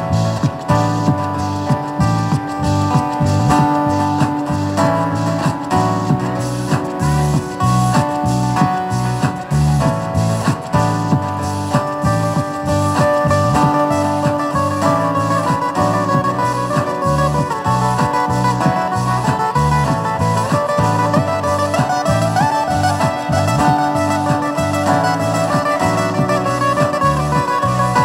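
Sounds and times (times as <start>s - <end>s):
fingerstyle acoustic guitar: 0.0s - 28.0s.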